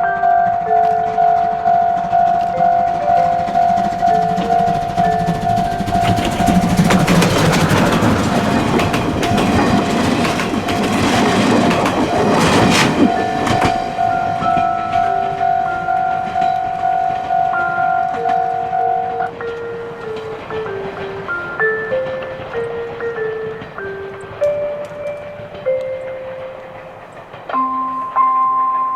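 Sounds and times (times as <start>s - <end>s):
slow background music: 0.0s - 28.9s
train wheels clattering on rails: 0.0s - 28.9s.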